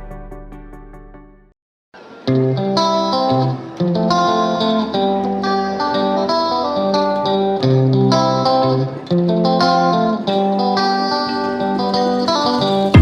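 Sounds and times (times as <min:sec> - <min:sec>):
plucked guitar notes: 0:02.0 - 0:13.0.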